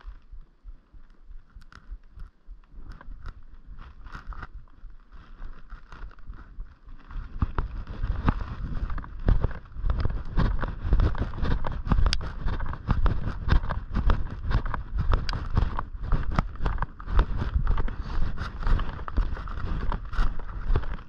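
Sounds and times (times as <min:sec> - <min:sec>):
wind buffeting microphone: 0:01.9 - 0:21.0
footsteps crunching snow: 0:02.7 - 0:21.0.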